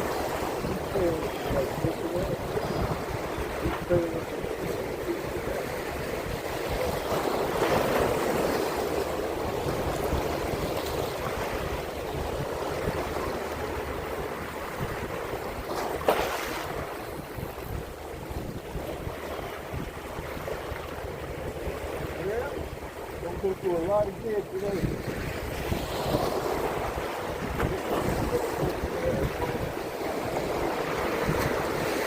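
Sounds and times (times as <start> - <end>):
seawater lapping: 0.0 - 32.0.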